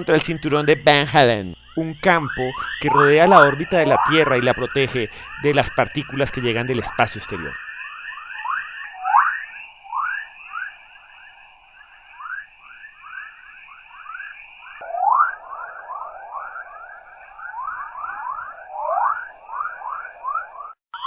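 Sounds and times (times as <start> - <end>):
rising electronic chirps: 0.0 - 21.0.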